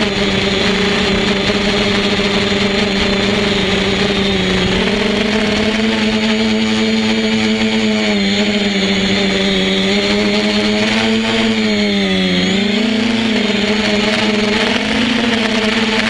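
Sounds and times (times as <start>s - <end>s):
quadcopter propellers whirring: 0.0s - 16.0s.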